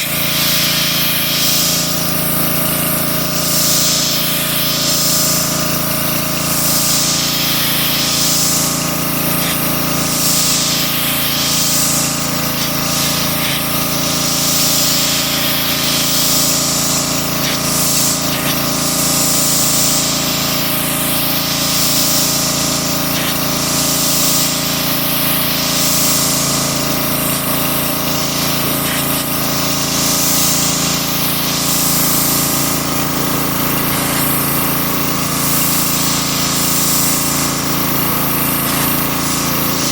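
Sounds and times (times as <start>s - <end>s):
hissing water spray: 0.0s - 39.9s
pressure washer motor hum: 0.0s - 39.9s.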